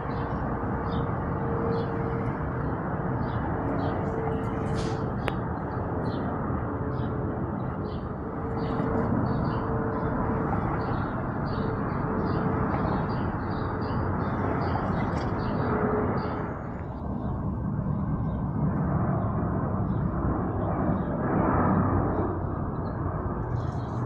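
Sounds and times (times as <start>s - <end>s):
jet aircraft roar: 0.0s - 24.0s.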